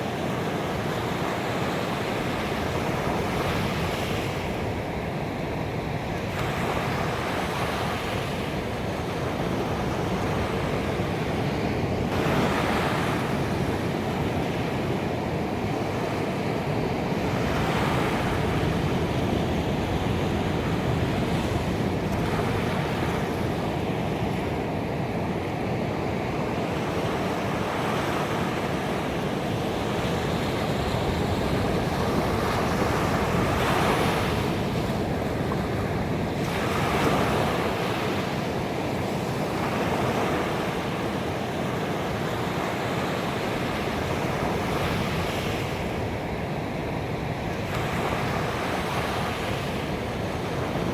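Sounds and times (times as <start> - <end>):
ocean waves breaking on beach: 0.0 - 50.9.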